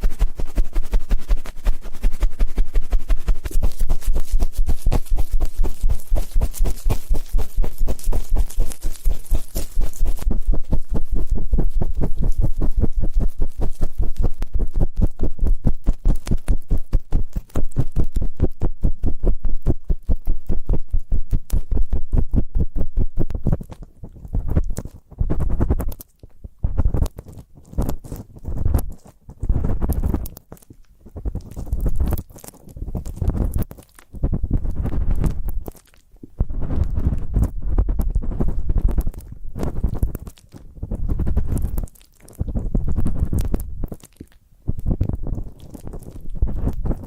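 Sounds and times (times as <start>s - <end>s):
rubbing and scraping on microphone: 0.0s - 47.0s.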